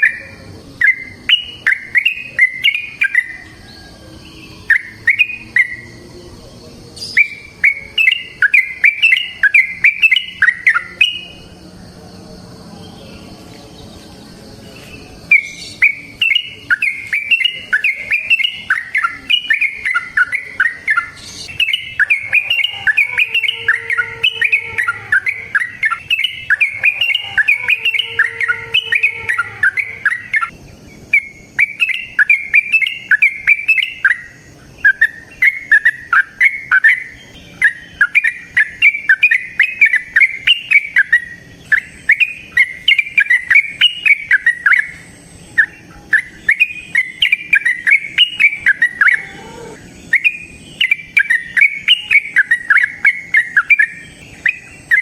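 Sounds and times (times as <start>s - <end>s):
bird singing bubbly chirps: 0.0s - 11.5s, 13.0s - 55.0s.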